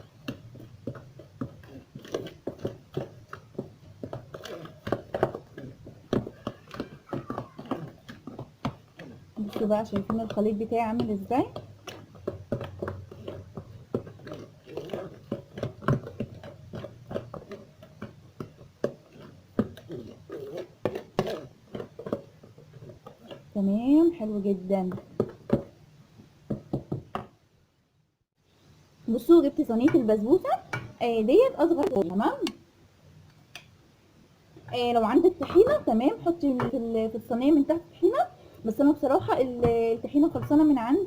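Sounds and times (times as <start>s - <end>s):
batter stirred in a bowl: 0.0s - 27.6s, 28.4s - 41.0s.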